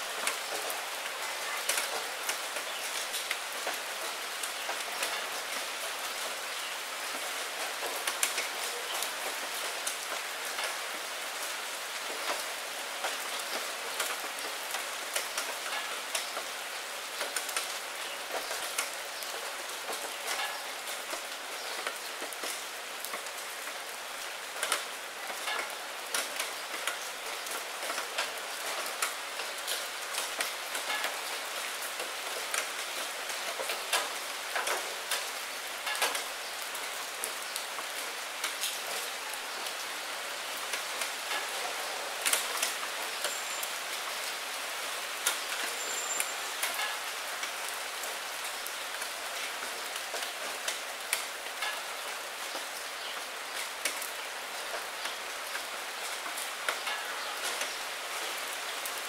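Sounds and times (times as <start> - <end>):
rain on window pane: 0.1 - 59.0
raindrops tapping: 0.1 - 59.0.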